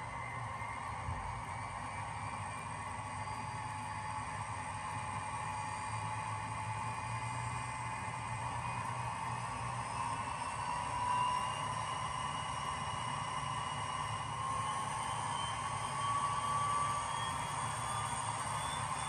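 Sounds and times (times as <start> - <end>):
model locomotive diesel engine drone: 0.0 - 19.0.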